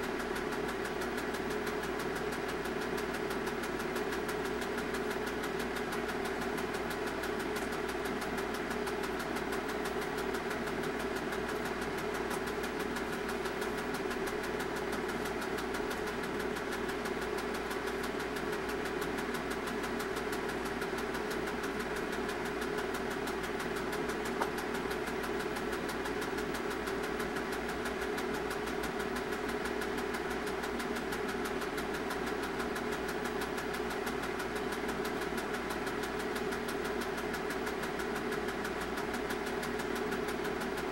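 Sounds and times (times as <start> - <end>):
film projector whirring and ticking: 0.0 - 40.9.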